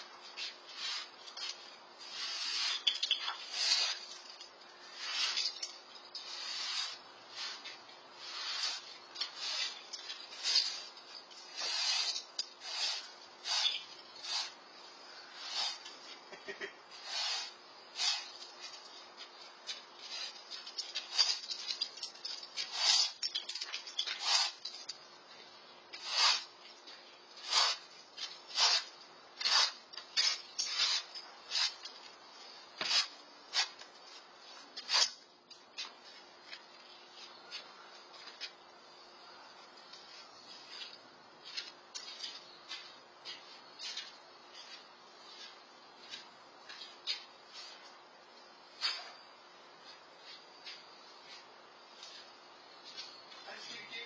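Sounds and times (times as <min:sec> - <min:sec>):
broom sweeping concrete: 0:00.0 - 0:25.0, 0:25.9 - 0:38.4, 0:40.0 - 0:48.0.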